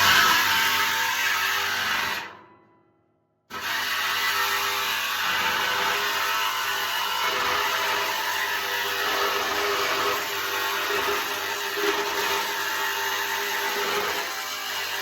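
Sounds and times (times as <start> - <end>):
electric saw cutting sheet steel: 0.0 - 2.4, 3.5 - 15.0.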